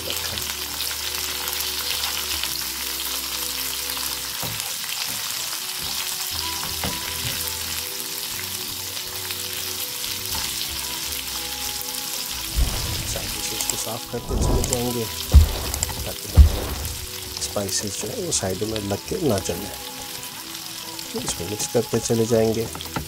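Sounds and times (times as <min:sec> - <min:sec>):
onions sizzling in a frying pan: 0:00.0 - 0:14.1, 0:14.8 - 0:23.0.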